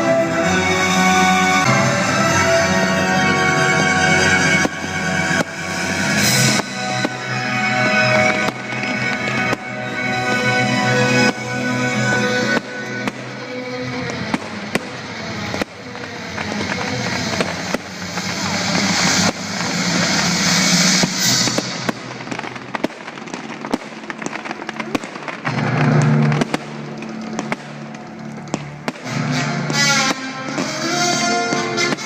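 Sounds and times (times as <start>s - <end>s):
firework bangs: 0.0s - 32.0s
firework hissing crackle: 0.0s - 32.0s
music playing: 0.0s - 32.0s.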